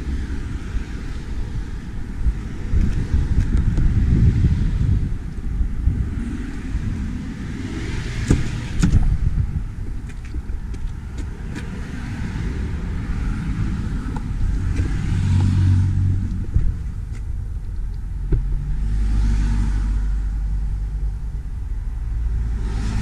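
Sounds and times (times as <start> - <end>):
van rumble: 0.0 - 23.0
wind on microphone: 0.0 - 23.0.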